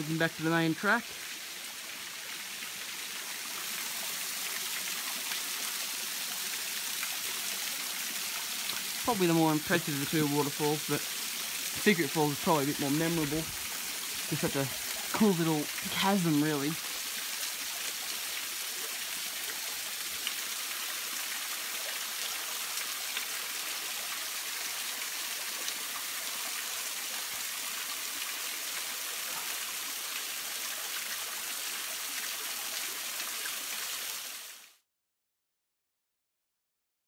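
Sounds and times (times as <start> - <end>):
small waterfall splashing on rock: 1.0 - 34.8.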